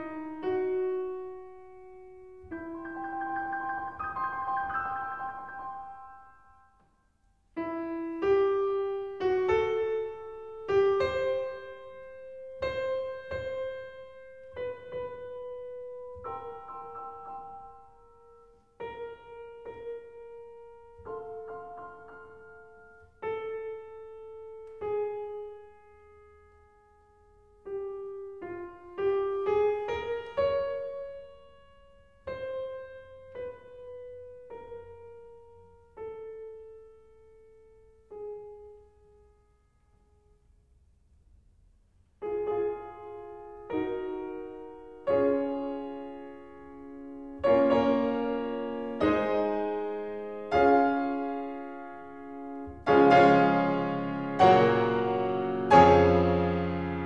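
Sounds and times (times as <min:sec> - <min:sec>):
slow solo piano: 0:00.0 - 0:40.4, 0:42.2 - 0:57.0.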